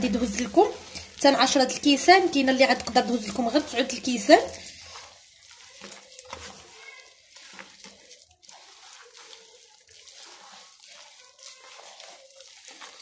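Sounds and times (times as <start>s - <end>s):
hand mixing wet dough: 0.0s - 13.0s.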